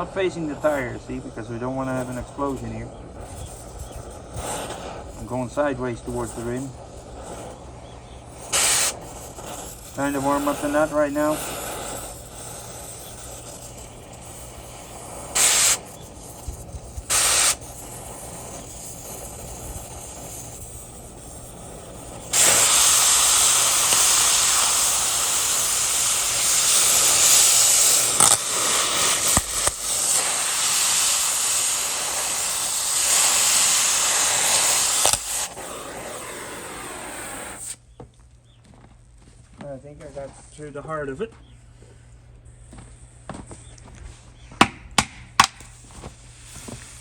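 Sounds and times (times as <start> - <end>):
cutting torch hissing: 0.0 - 37.9, 45.5 - 47.0
loud torch blasts: 0.0 - 37.9.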